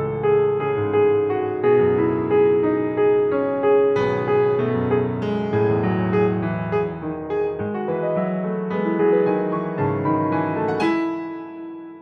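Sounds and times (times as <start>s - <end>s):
solo piano playing: 0.0s - 12.0s.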